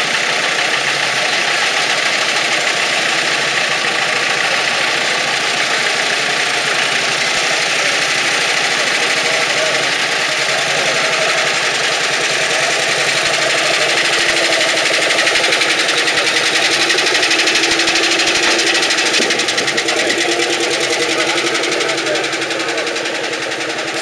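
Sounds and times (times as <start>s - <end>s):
tractor engines chugging: 0.0s - 24.0s.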